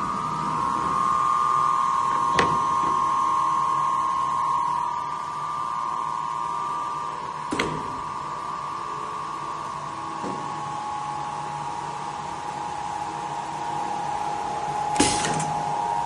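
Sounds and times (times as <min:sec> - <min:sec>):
steady high tone: 0:00.0 - 0:16.0.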